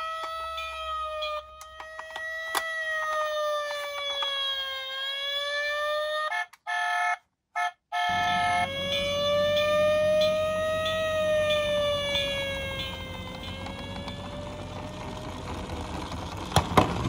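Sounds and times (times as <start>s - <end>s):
toy electronic siren wailing: 0.0s - 15.1s.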